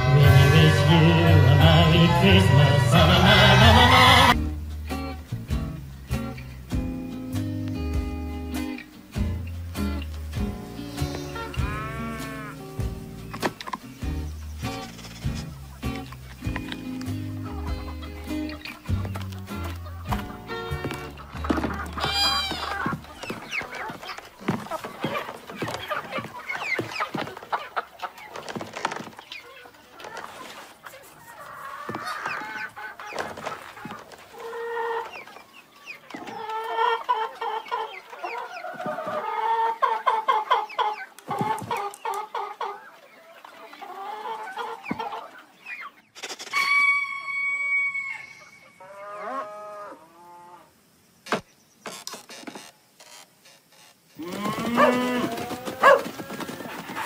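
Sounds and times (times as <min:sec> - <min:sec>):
hens clucking and squawking: 0:00.0 - 0:04.4, 0:07.9 - 0:51.0, 0:54.2 - 0:57.0.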